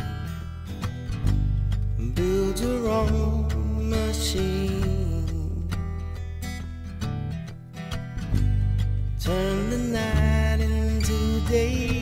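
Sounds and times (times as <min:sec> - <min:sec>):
acoustic guitar accompaniment: 0:00.0 - 0:12.0.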